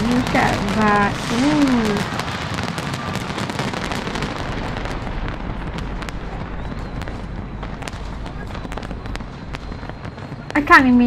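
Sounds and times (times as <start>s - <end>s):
steady rushing noise: 0.0s - 10.8s
fireworks crackling and popping: 0.0s - 11.0s.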